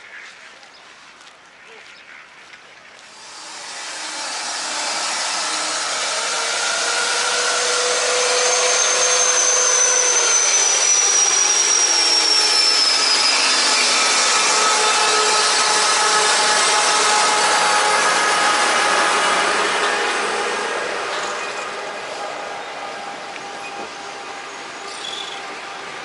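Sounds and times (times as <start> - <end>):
train rushing past: 3.0 - 26.0
whining tones falling in pitch: 3.1 - 26.0.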